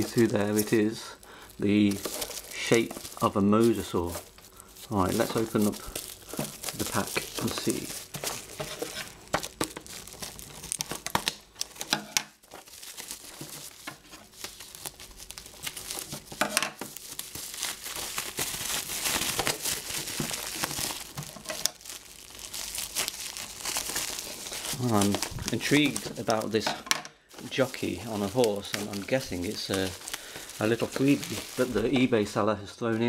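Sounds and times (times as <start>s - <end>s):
bubble wrap crinkling: 0.0s - 32.4s.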